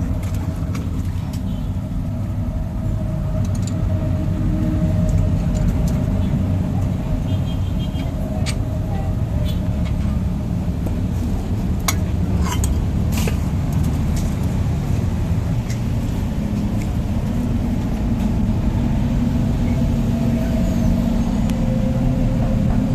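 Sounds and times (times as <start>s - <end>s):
vehicle engine rumbling: 0.0s - 22.9s.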